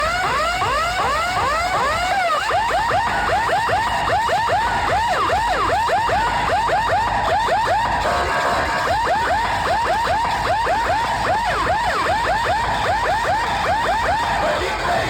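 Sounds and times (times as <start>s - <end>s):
electronic siren warble: 0.0s - 14.4s.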